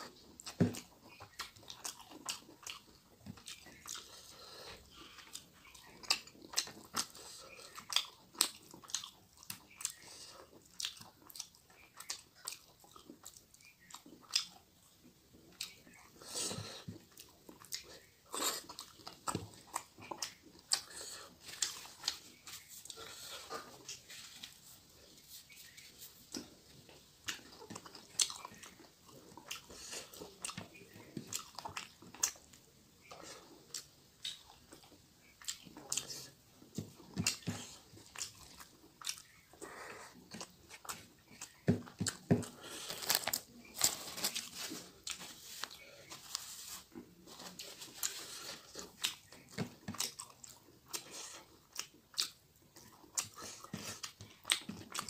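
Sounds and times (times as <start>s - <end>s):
chewing and lip-smacking: 0.0s - 55.0s.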